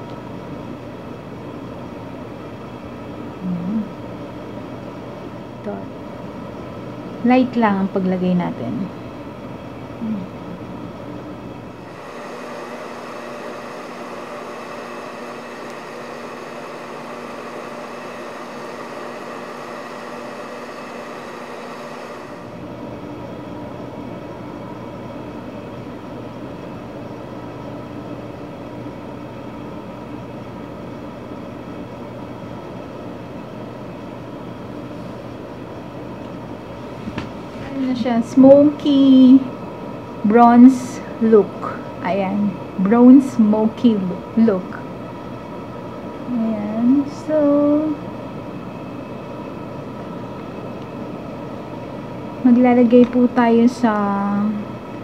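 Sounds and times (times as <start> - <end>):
machine hum with hiss: 0.0 - 55.0.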